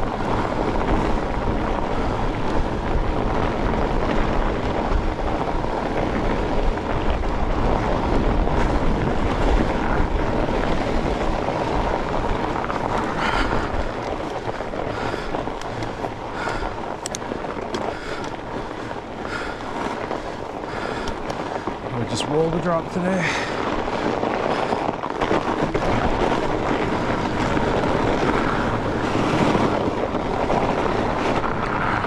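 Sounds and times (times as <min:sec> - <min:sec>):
bike tyres rumbling: 0:00.0 - 0:32.0
wind buffeting microphone: 0:00.0 - 0:32.0.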